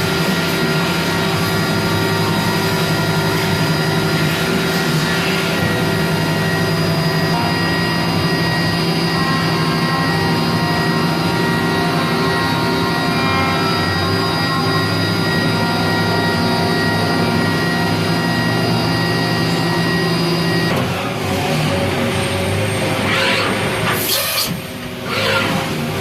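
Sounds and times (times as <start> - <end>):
constant whining tones: 0.0 - 26.0
machining center hum: 0.0 - 26.0.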